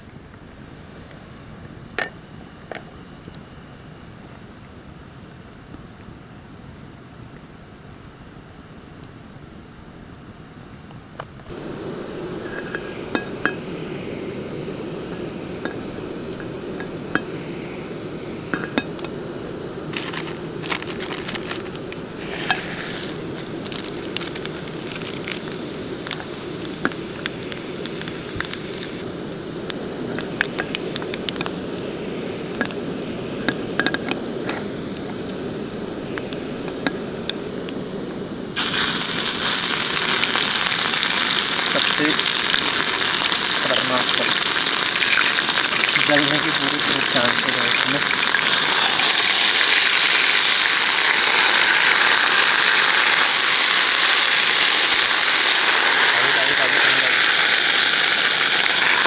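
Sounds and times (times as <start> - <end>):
gas stove burner humming: 0.0 - 6.1, 10.9 - 59.0
loud sizzle in hot oil: 11.5 - 59.0.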